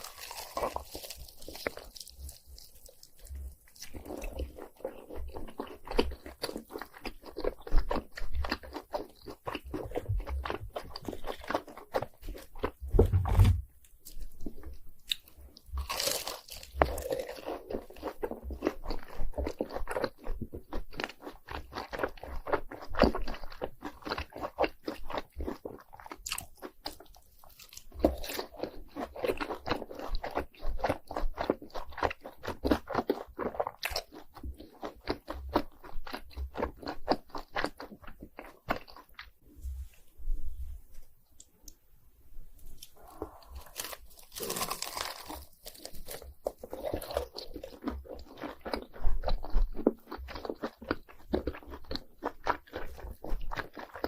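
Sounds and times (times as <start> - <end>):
crunchy bites and chewing: 0.0 - 39.4, 42.6 - 54.0.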